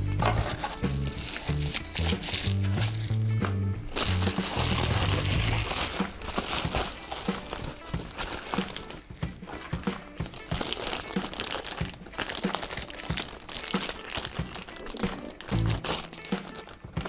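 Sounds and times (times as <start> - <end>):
bubble wrap and plastic crinkling: 0.2 - 17.0.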